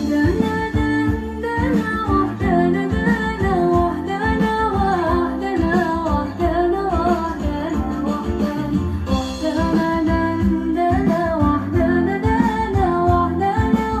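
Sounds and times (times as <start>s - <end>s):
guitar song: 0.0s - 14.0s
person singing: 0.0s - 14.0s.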